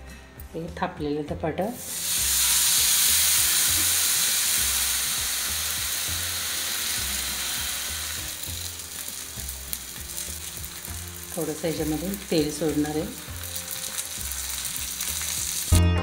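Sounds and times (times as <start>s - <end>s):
flatbread sizzling on griddle: 1.8s - 15.8s.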